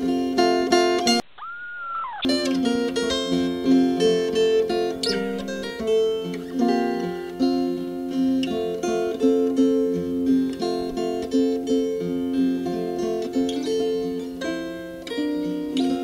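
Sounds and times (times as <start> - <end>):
acoustic guitar plucking: 0.0 - 16.0.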